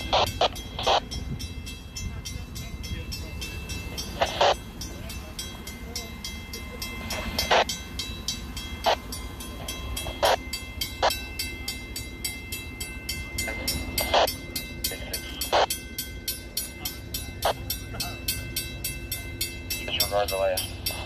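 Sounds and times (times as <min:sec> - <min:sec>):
engine and road rumble: 0:00.0 - 0:21.0.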